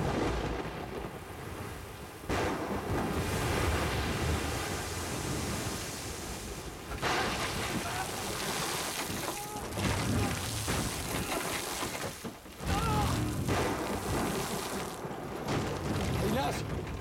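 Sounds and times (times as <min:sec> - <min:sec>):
heavy rain: 0:00.0 - 0:17.0
rough sea crashing against ship: 0:00.0 - 0:17.0
wind: 0:00.0 - 0:17.0.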